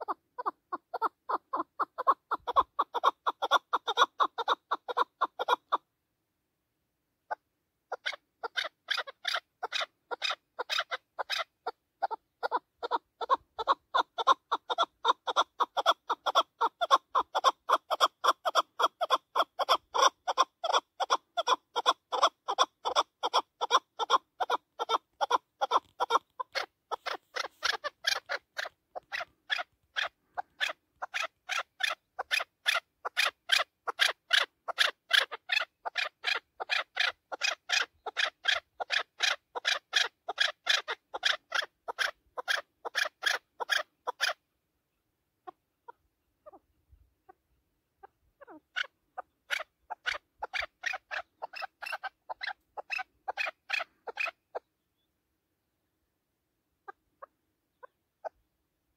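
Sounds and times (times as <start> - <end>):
partridge chuk calls: 0.0 - 5.9, 7.3 - 44.4, 45.4 - 55.1, 56.8 - 58.4.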